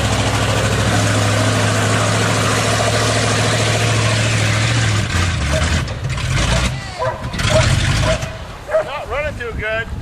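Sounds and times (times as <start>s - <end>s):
truck engine idling: 0.0s - 9.3s.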